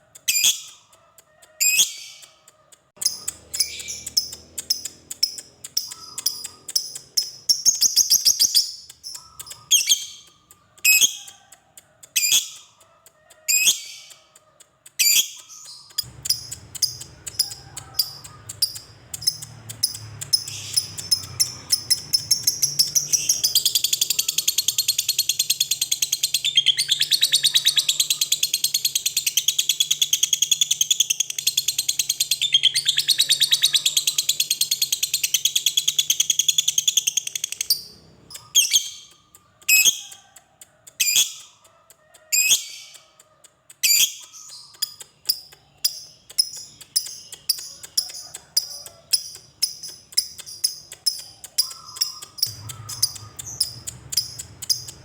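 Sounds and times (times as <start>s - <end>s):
lovebird chattering trill: 0.1s - 55.0s
lovebird chirps: 0.2s - 40.3s, 41.0s - 43.2s, 43.8s - 55.0s.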